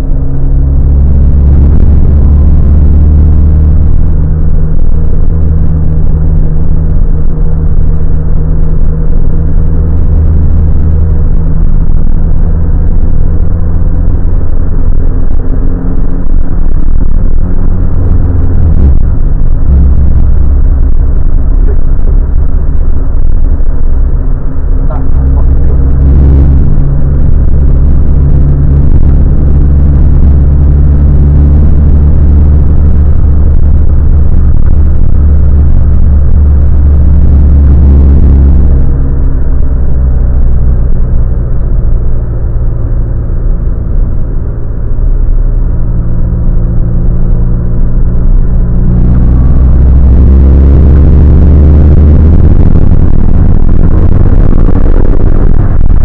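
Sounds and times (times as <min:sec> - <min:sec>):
car engine from inside cabin: 0:00.0 - 0:56.0
wind noise: 0:00.0 - 0:56.0.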